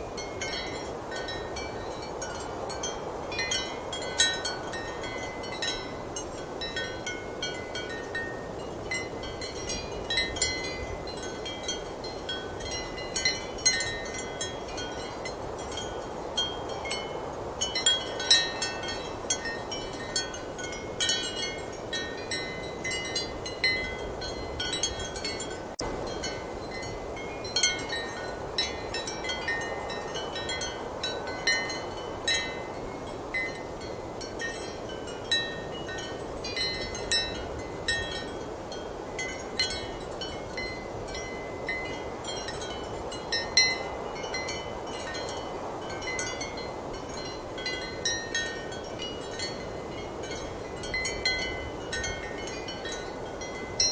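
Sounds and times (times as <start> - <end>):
ceramic wind chimes clinking: 0.0 - 53.9.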